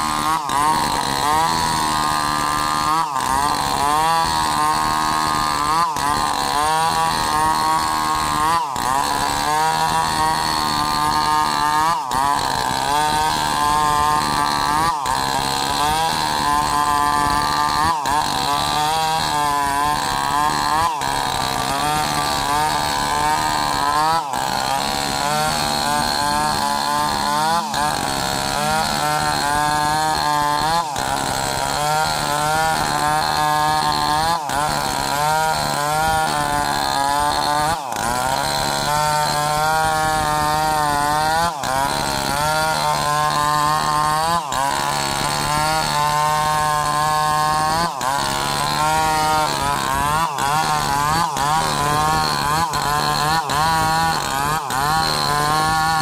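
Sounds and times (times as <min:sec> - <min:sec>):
chainsaws cutting wood: 0:00.0 - 0:56.0.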